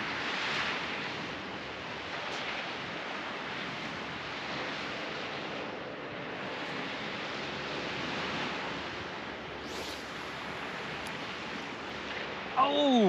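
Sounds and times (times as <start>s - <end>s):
surf washing: 0.0s - 13.0s
wind on microphone: 0.0s - 13.0s.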